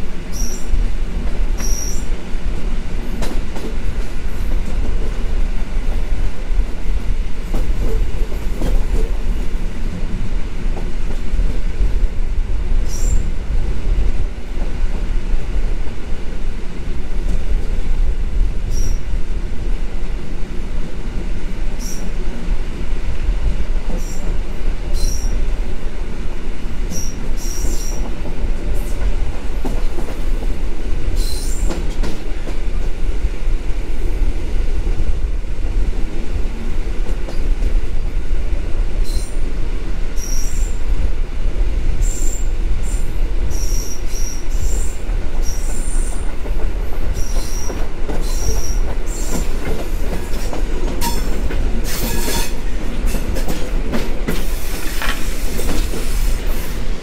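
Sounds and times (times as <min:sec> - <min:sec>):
rumble of train wheels on rail: 0:00.0 - 0:57.0.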